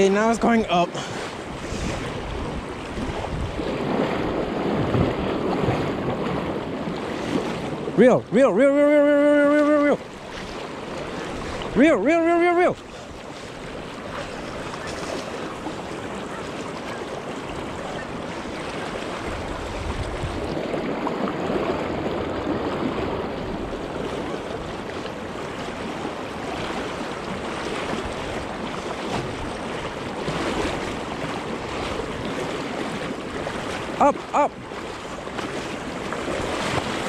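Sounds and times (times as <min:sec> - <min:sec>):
fast river current rushing: 0:00.0 - 0:37.0.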